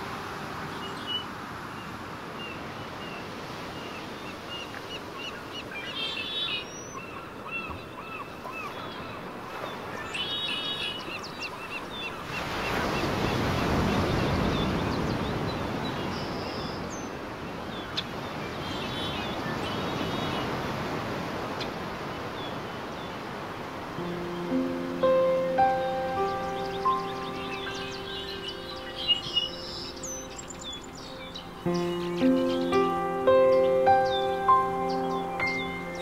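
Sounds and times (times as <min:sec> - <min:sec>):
small birds chirping: 0:00.6 - 0:20.7, 0:24.0 - 0:36.0.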